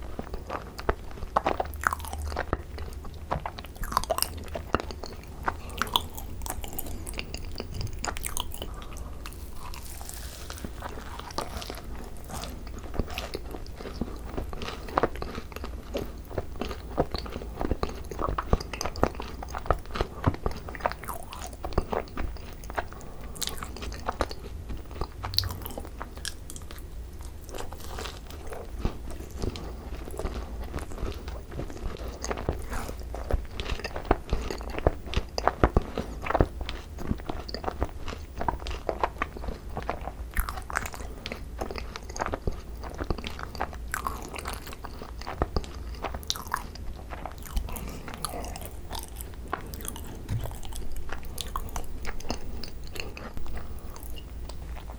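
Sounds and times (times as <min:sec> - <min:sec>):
chewing and crunching macarons: 0:00.0 - 0:54.9.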